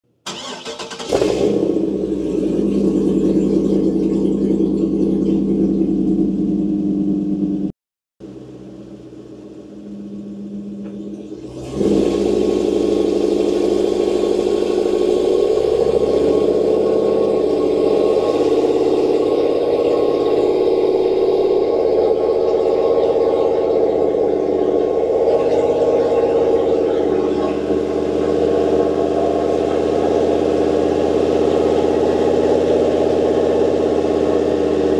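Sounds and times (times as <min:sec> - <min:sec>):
engine running and accelerating: 0:00.2 - 0:34.9.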